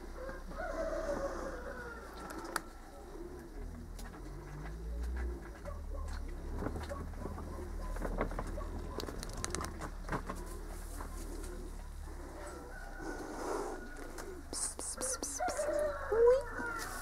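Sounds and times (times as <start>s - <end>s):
bird cooing: 0.1s - 16.8s.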